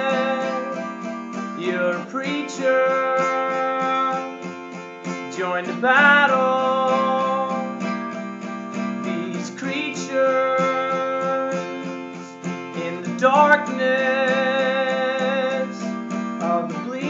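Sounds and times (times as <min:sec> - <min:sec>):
acoustic guitar strumming: 0:00.0 - 0:17.0
man singing with vibrato: 0:00.0 - 0:17.0.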